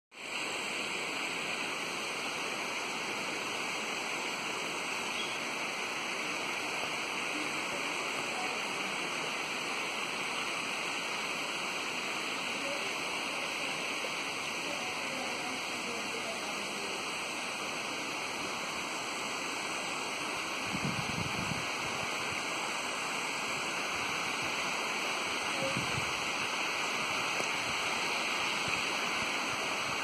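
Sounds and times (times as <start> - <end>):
steady hiss: 0.1 - 30.0.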